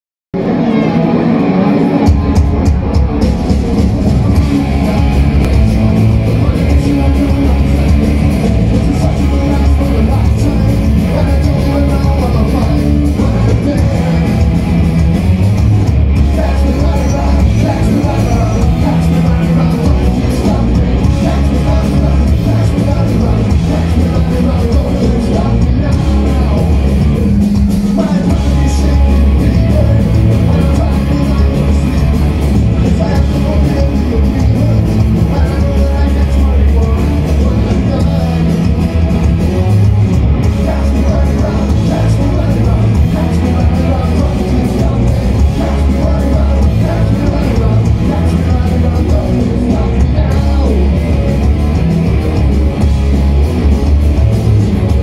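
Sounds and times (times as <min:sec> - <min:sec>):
live punk rock band: 0:00.4 - 0:55.0.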